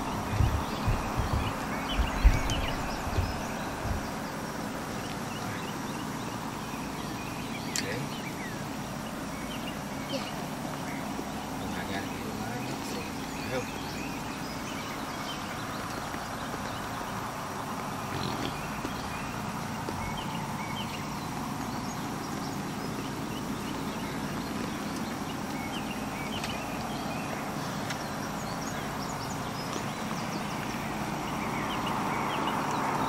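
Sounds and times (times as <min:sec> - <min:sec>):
hooves scuffling on dirt: 0:00.0 - 0:33.0.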